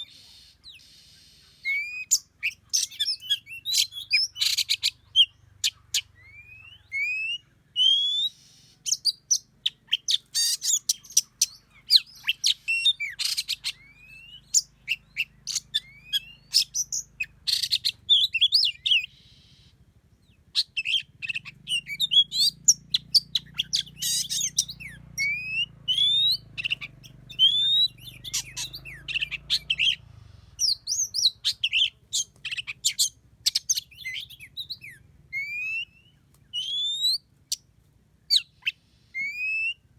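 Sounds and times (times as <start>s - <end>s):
birds whistling and chirping: 0.0s - 39.9s
faint low hum: 0.0s - 39.9s.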